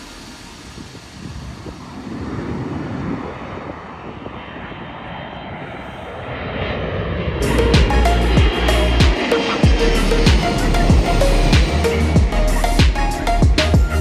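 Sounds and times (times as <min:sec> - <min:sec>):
wind buffeting microphone: 0:00.0 - 0:12.4
airliner engine roar: 0:00.0 - 0:14.0.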